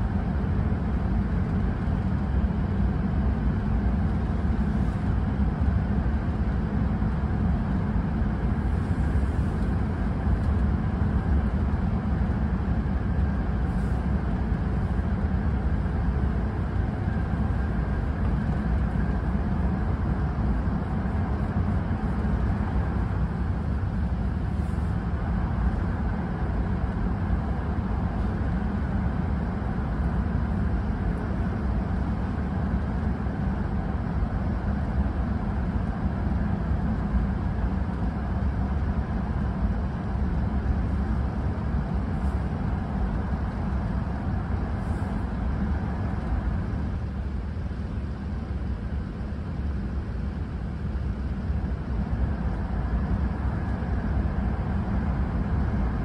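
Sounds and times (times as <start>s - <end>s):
train rumble and rushing: 0.0s - 56.0s.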